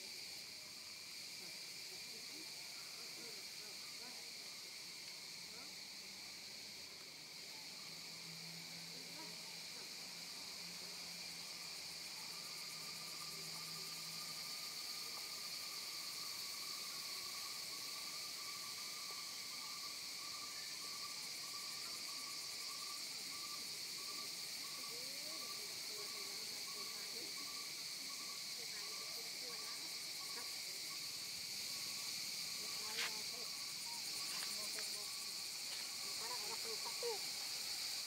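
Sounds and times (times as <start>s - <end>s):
fast pulsing insect trill: 0.0s - 38.0s
high-pitched insect chorus: 0.0s - 38.0s.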